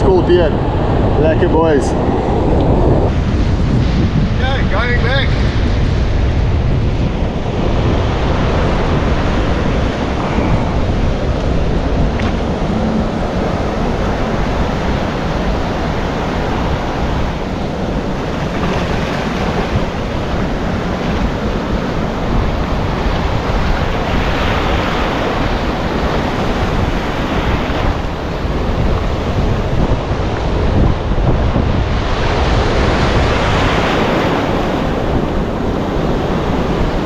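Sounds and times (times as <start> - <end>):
surf breaking on beach: 0.0 - 37.0
wind buffeting microphone: 0.0 - 37.0.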